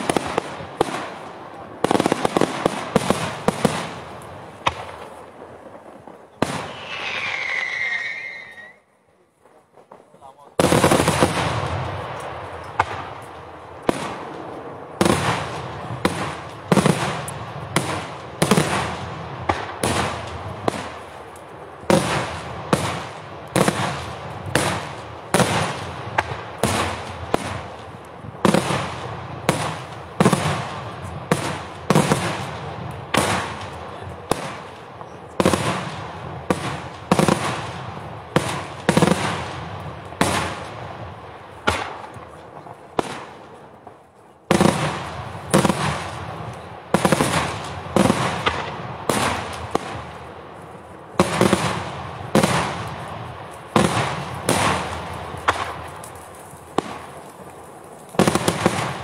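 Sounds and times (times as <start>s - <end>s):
fireworks bursting with loud bangs: 0.0s - 59.0s.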